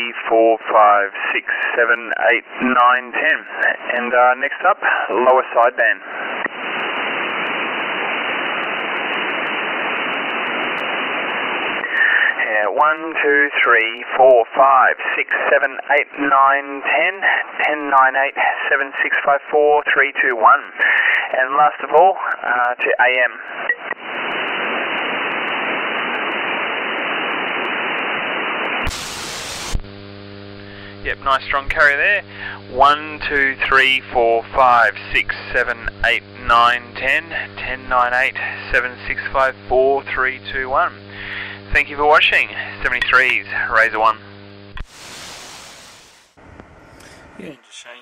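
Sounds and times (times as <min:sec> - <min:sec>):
radio receiver hiss: 0:00.0 - 0:19.4, 0:20.7 - 0:48.0.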